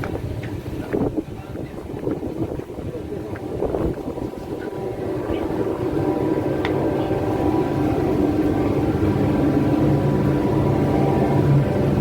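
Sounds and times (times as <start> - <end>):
ship engine droning: 0.0 - 12.0.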